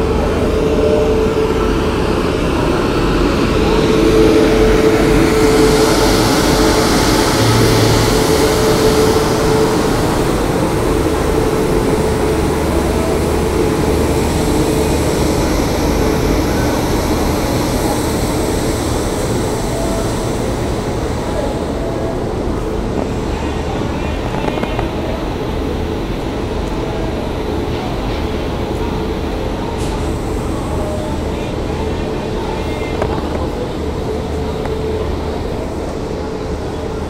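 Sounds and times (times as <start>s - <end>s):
constant hum tone: 0.0s - 37.0s
electric locomotive blowers droning: 0.0s - 37.0s.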